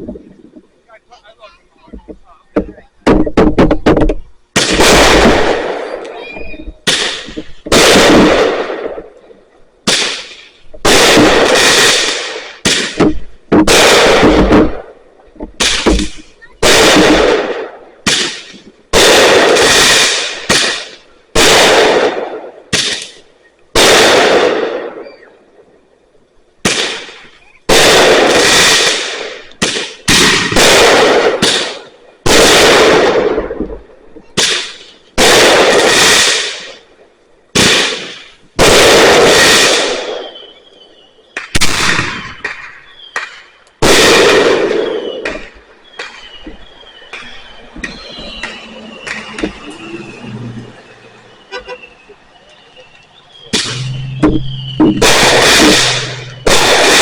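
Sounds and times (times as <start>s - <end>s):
fireworks exploding: 0.0s - 57.0s.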